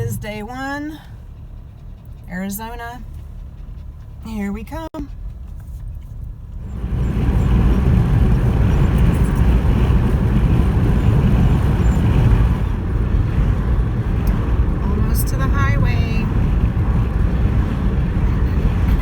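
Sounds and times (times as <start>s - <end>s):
car road and wind noise: 0.0s - 19.0s.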